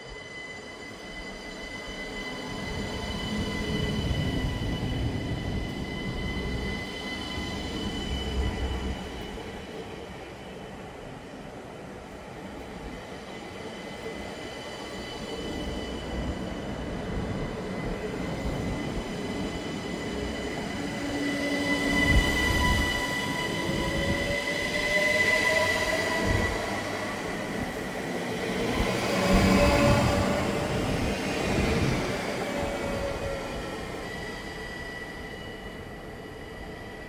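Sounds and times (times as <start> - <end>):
train running past: 0.0 - 37.0.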